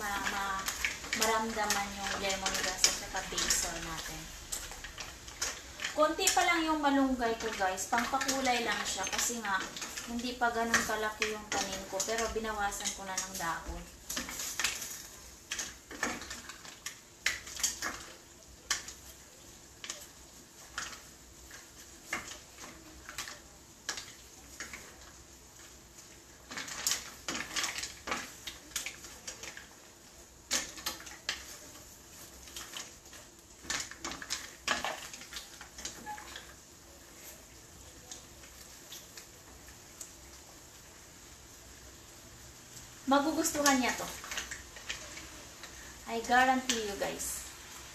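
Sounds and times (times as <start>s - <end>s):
mussel shells clattering in pot: 0.0s - 39.7s.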